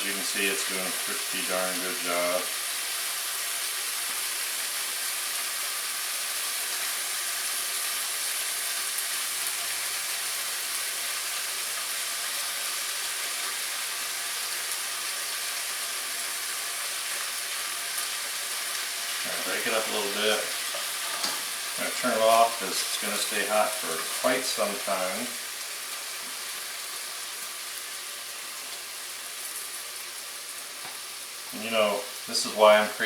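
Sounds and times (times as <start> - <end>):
meat sizzling in a pan: 0.0 - 33.0.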